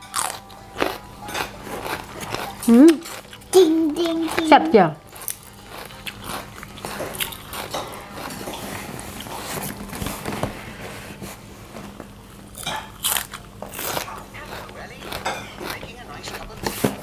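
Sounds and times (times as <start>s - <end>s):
chewing raw greens: 0.1s - 9.5s, 12.6s - 16.9s.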